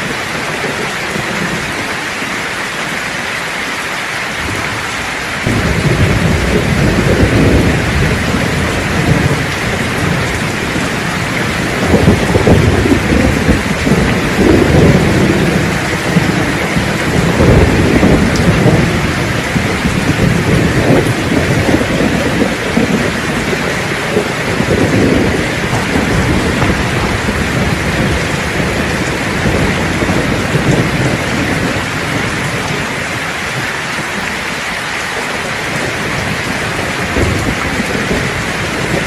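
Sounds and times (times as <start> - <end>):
steady rain: 0.0 - 39.0
deep thunder rumble: 5.4 - 39.0.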